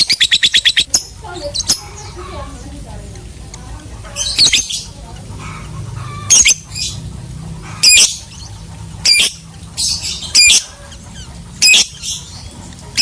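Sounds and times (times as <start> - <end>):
lovebird squawking: 0.0 - 2.7, 4.0 - 13.0.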